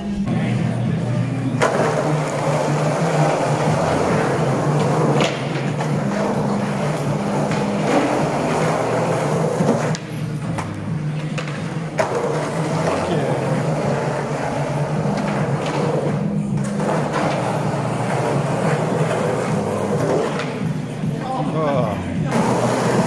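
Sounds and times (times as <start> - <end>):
skateboard wheels rolling on concrete: 0.2 - 21.2, 22.3 - 23.0
skateboard clacks: 1.6 - 20.8.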